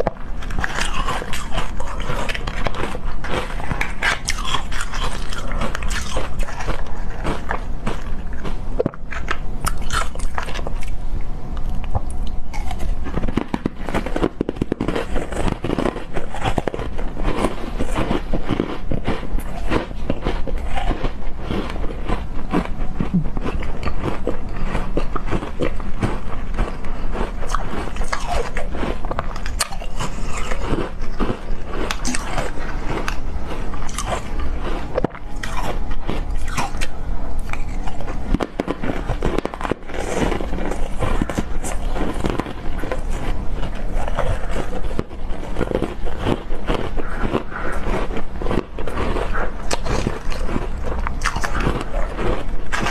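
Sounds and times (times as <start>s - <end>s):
ice crunching between teeth: 0.0s - 11.0s, 11.6s - 52.9s.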